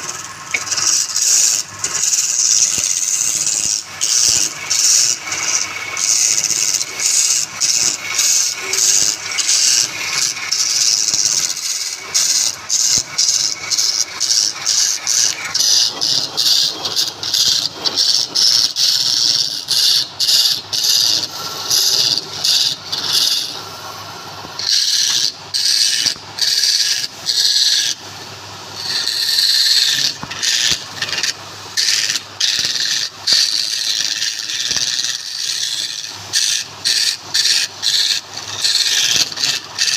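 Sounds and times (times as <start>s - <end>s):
lathe motor hum: 0.0s - 39.9s
wood scraping on a lathe: 0.0s - 39.9s.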